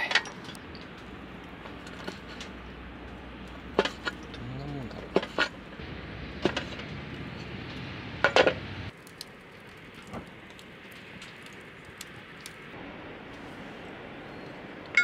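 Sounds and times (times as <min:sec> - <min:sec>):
low steady rumble: 0:00.1 - 0:15.0.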